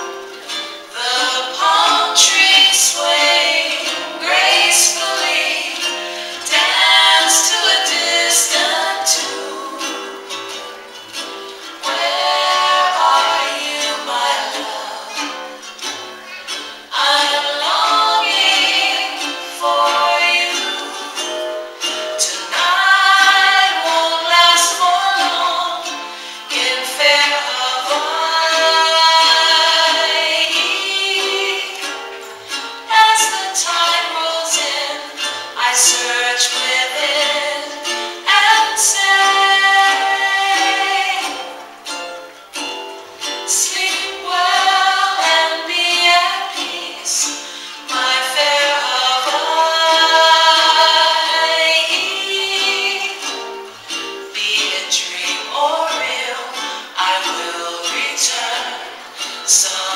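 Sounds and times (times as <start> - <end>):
song with strummed accompaniment: 0.0 - 59.9.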